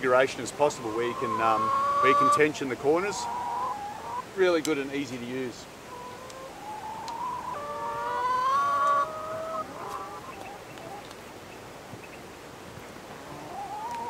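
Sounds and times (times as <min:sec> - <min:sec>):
hens calling: 0:00.1 - 0:11.2, 0:13.1 - 0:14.0.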